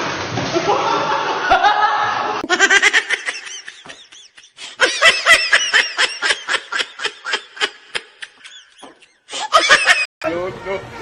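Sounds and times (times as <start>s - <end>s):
person laughing hard: 0.7s - 10.1s.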